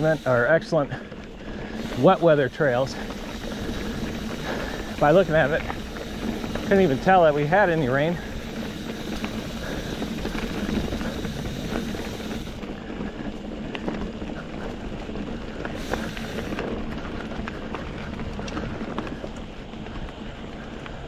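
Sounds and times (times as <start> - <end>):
bike clicks and rattles: 0.0 - 21.0
bike tyres rumbling on dirt: 0.0 - 21.0.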